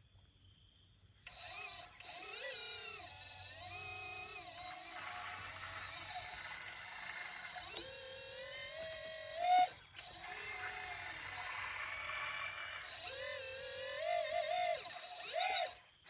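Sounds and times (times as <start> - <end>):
electric hydraulic pump whining: 1.2 - 16.0.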